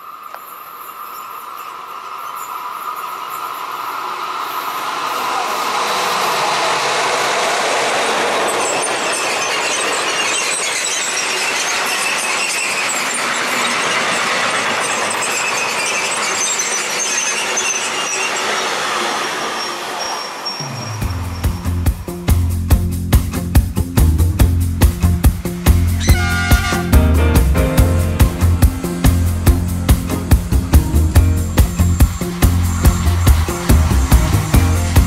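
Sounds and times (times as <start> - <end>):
high wheel squeal: 0.0 - 22.5, 25.4 - 35.0
freight train passing: 0.0 - 35.0.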